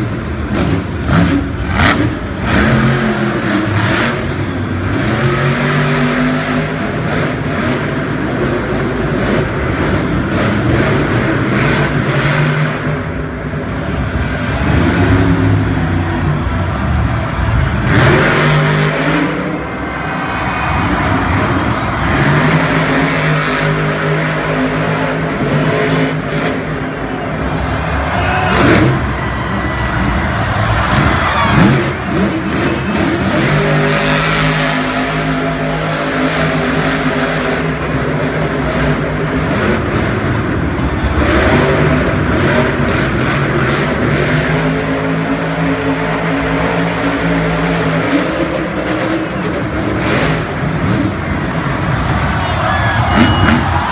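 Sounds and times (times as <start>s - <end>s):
truck engine revving: 0.0s - 53.9s.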